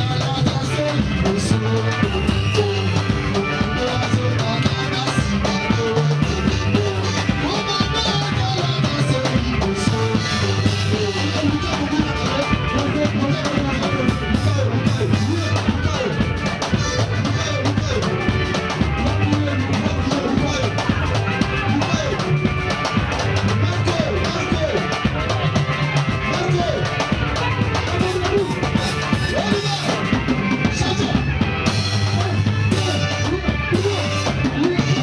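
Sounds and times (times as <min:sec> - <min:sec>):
singers on microphones: 0:00.0 - 0:22.4, 0:23.4 - 0:35.0
drum kit: 0:00.0 - 0:35.0
electric guitar: 0:00.0 - 0:35.0.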